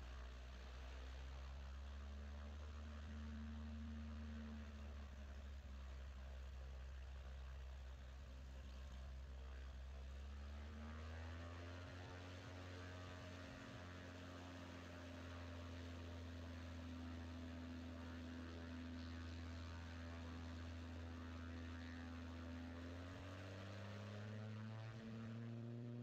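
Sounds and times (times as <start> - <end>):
muffled airplane engine drone: 0.0 - 26.0.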